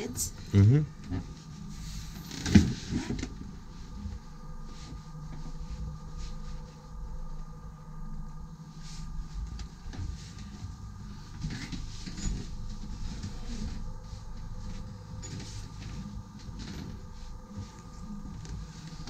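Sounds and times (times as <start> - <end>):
low mechanical hum of machinery: 0.0 - 19.0.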